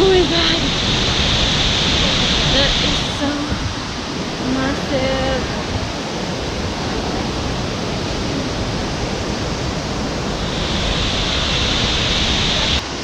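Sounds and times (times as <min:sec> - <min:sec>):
waterfall rushing onto rocks: 0:00.0 - 0:13.0.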